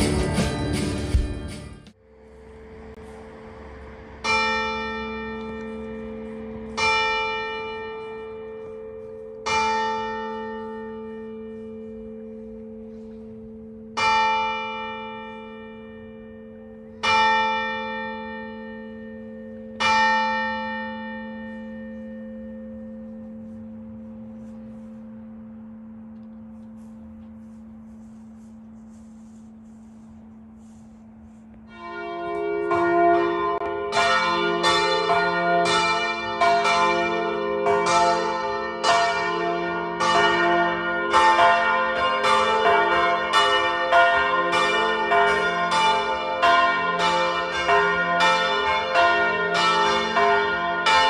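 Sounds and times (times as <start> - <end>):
church bell ringing: 0.0 - 51.0.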